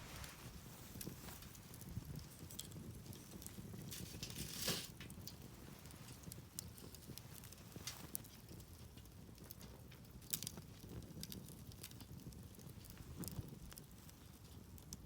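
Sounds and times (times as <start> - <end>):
campfire crackling and snapping: 0.0 - 15.0.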